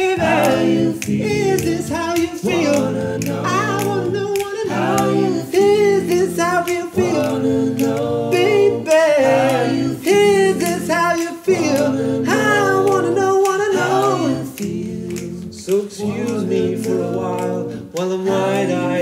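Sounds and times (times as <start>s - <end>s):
male a cappella group singing: 0.0s - 19.0s.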